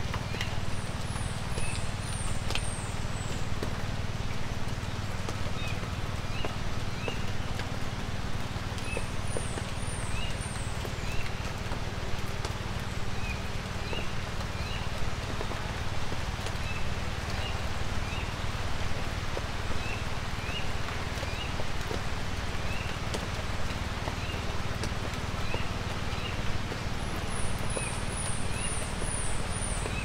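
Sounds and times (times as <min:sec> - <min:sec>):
light rain pattering: 0:00.0 - 0:30.0
water drips: 0:00.0 - 0:30.0.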